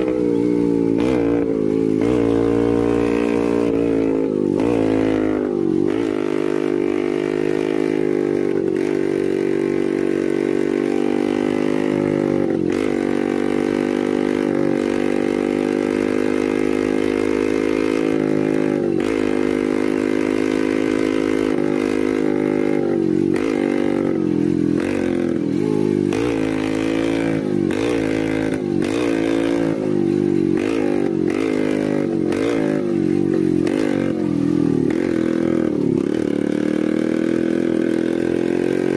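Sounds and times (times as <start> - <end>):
scooter engine revving: 0.0 - 38.9.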